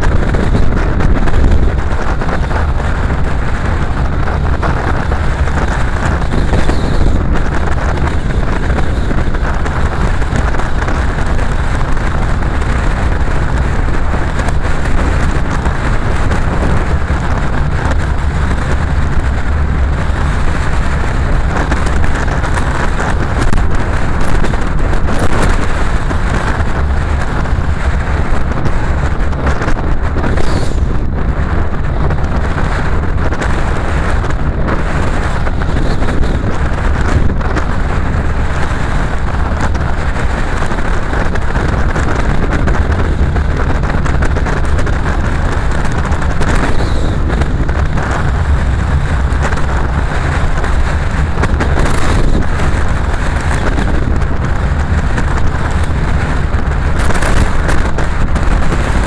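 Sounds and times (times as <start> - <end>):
car engine: 0.0 - 59.0
tyre and wind noise: 0.0 - 59.0.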